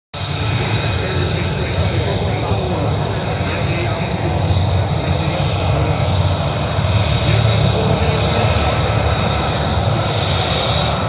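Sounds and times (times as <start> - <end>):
jet engine high whine: 0.2 - 11.0
jet engine low rumble: 0.2 - 11.0.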